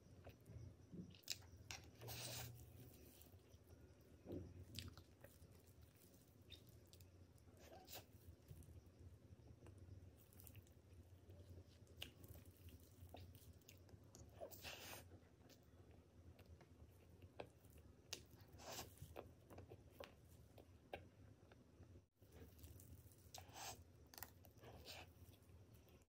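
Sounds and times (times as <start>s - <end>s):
chewing soft cake: 0.0s - 26.0s
faint low hum: 0.0s - 26.0s.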